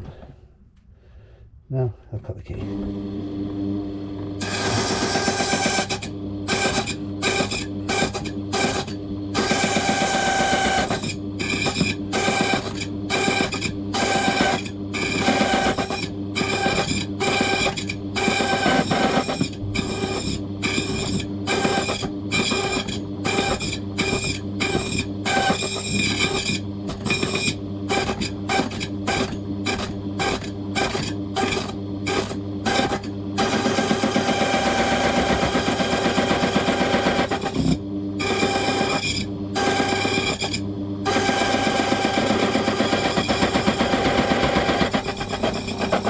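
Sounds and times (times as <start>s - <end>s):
cutter milling key blank: 4.4s - 46.0s
key-cutting machine motor humming: 4.4s - 46.0s.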